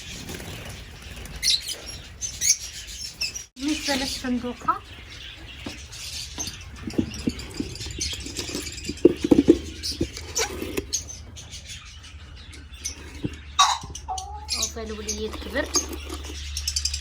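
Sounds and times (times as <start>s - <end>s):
cage birds chirping: 0.0s - 17.0s.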